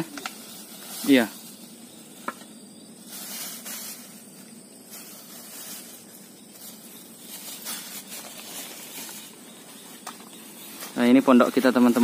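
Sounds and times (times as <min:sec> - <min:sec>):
rustling and scuffing: 0:00.0 - 0:12.0
steady high hiss: 0:00.0 - 0:12.0.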